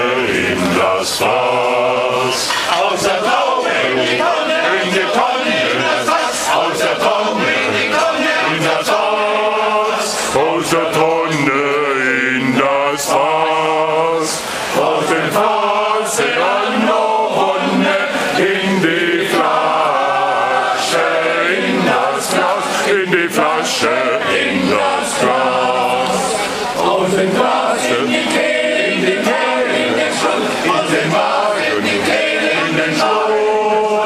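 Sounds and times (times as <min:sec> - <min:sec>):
men's choir singing: 0:00.0 - 0:34.0.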